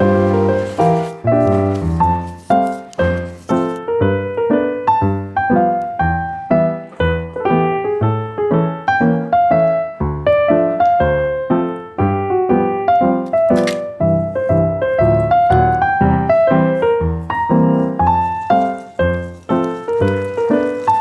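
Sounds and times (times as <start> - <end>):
light piano melody: 0.0 - 21.0.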